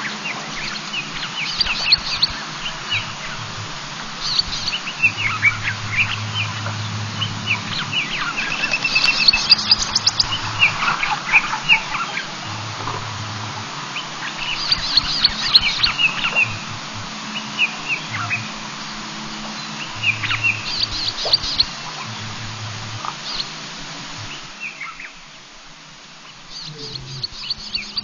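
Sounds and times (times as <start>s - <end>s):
birds chirping and squawking: 0.0s - 25.2s, 26.5s - 28.0s
background hiss: 0.0s - 28.0s
faint low hum: 0.0s - 28.0s.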